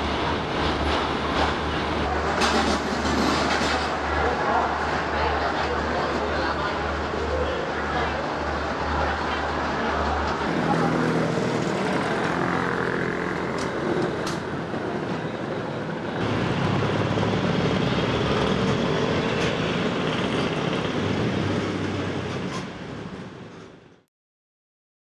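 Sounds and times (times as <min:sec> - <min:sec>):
steady engine hum: 0:00.0 - 0:23.9
train rumbling on rails: 0:00.0 - 0:24.0.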